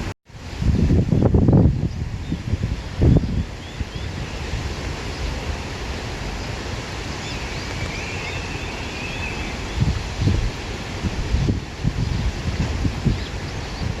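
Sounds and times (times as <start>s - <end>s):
wind buffeting microphone: 0.0s - 14.0s
wind through grass and foliage: 0.0s - 14.0s.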